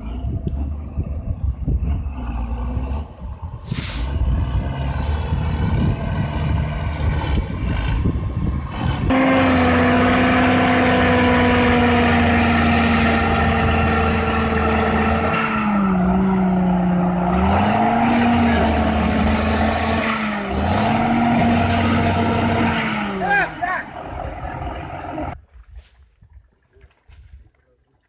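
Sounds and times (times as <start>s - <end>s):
tractor diesel engine revving: 0.0s - 25.4s.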